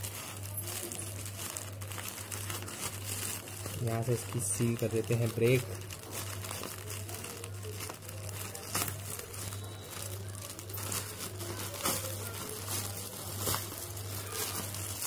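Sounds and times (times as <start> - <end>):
plastic bag crinkling and tearing: 0.0 - 15.0.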